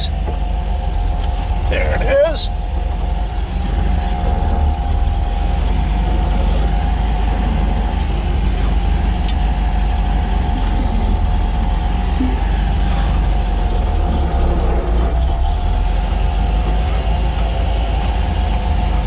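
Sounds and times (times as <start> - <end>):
car engine running at low revs: 0.0 - 19.0
steady whine: 0.0 - 19.0.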